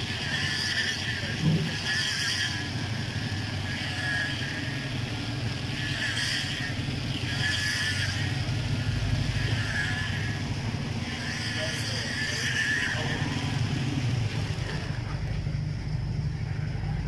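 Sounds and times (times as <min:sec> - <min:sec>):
rasping noise: 0:00.0 - 0:15.2
small engine rumbling: 0:00.0 - 0:17.0.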